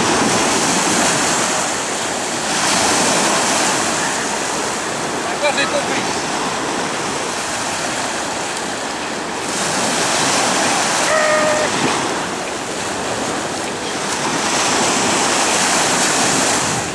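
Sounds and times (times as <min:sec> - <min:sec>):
waves breaking on stony beach: 0:00.0 - 0:16.9.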